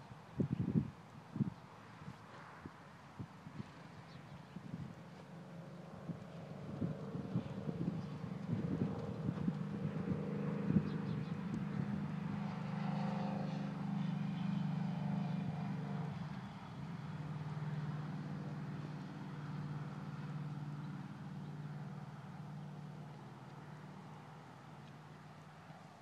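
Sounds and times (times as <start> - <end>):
motor engine droning: 4.7 - 26.0.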